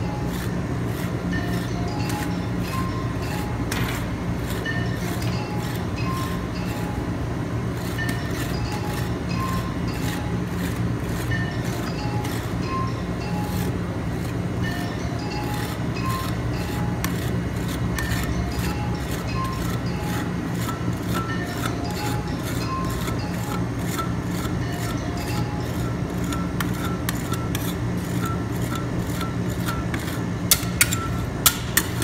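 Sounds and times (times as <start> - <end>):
metal spatula scraping steel plate: 0.0 - 7.1, 7.7 - 32.0
steady low hum: 0.0 - 32.0.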